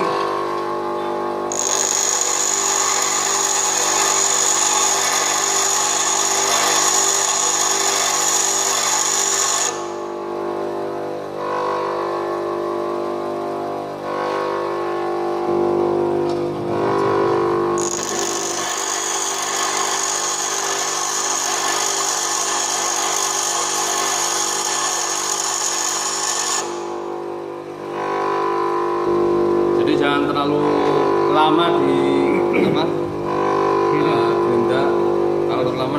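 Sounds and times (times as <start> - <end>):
bench grinder motor running: 0.0 - 35.9.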